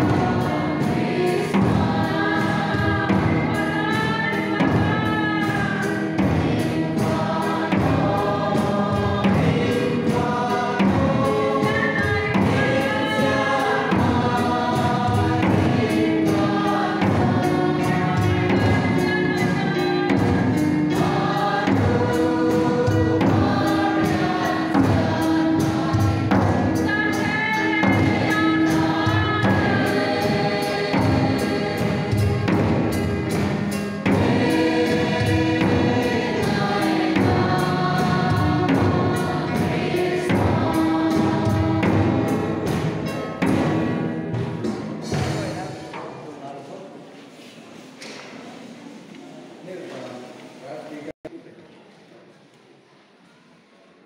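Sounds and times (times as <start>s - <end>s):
group singing: 0.0s - 46.0s
steady beat: 0.0s - 46.2s.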